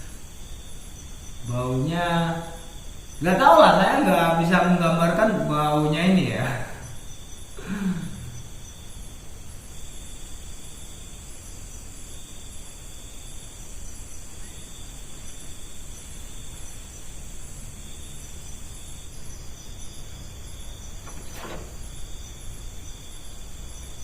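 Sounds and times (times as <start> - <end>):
crickets trilling: 0.0 - 24.0
low background hiss: 0.0 - 24.0.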